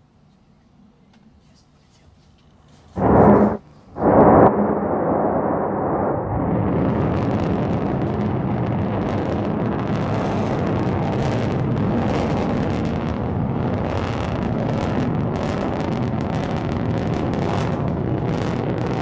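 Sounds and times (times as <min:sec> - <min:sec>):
rocket engine crackling: 0:03.0 - 0:19.0
rocket engine deep rumble: 0:03.0 - 0:19.0.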